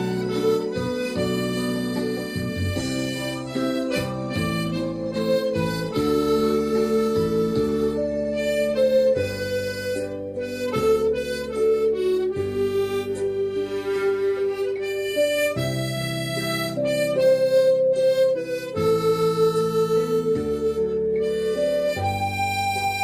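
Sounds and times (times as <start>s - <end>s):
backing chords accompaniment: 0.0s - 23.0s
harmonica melody: 0.0s - 23.0s.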